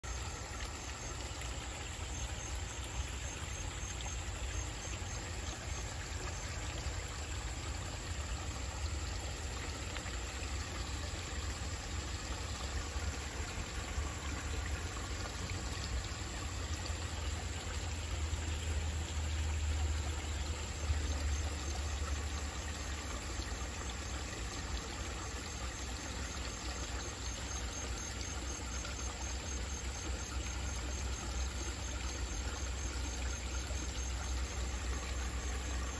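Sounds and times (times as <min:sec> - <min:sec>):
pond water trickling: 0:00.0 - 0:35.9.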